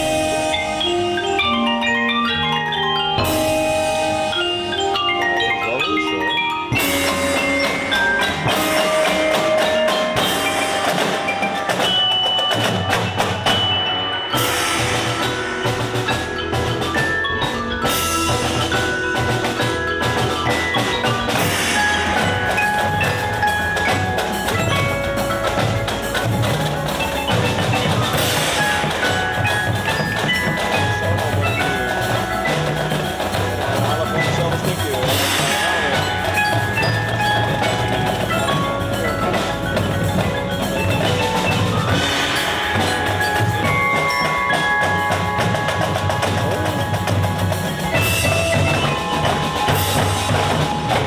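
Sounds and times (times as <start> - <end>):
drums: 0.0 - 51.0
mallet percussion ringing: 0.0 - 51.0
marching band music: 0.0 - 51.0.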